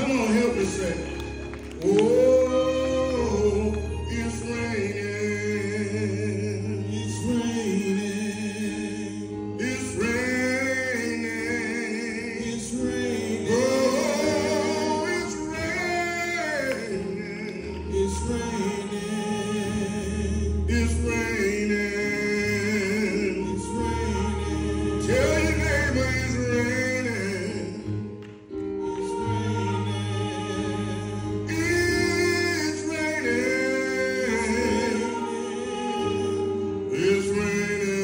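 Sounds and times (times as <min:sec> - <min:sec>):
man singing gospel song: 0:00.0 - 0:28.2, 0:28.8 - 0:38.0
keyboard chords and bass notes: 0:00.0 - 0:38.0.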